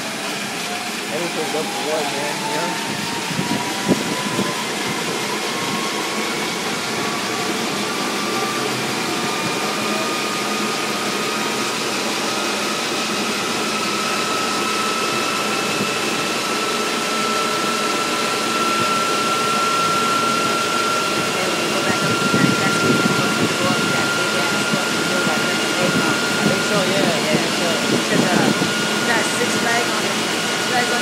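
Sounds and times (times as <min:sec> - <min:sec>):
car on dynamometer rushing: 0:00.0 - 0:31.0
faint rising whine: 0:00.0 - 0:31.0.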